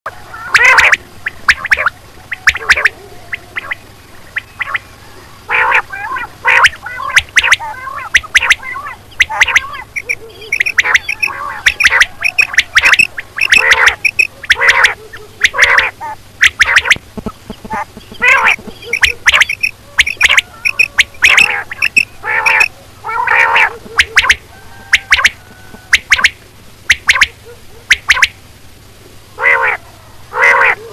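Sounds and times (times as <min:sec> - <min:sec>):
quail calling: 0:00.1 - 0:28.4, 0:29.4 - 0:30.9.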